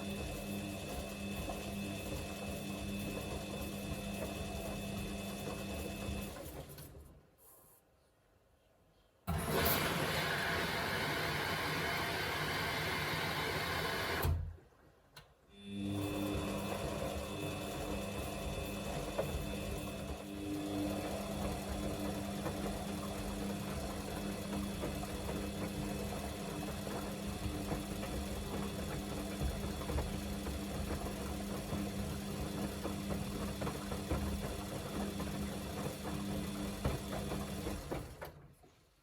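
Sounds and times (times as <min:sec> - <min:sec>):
washing machine motor hum: 0:00.0 - 0:07.0, 0:09.3 - 0:14.5, 0:15.6 - 0:38.4.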